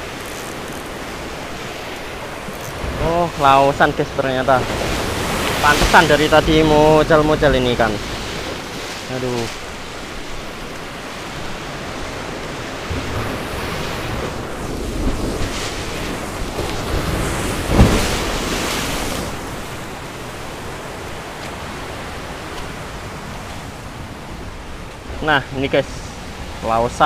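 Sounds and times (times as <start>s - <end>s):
sea surf washing on shore: 0.0s - 27.0s.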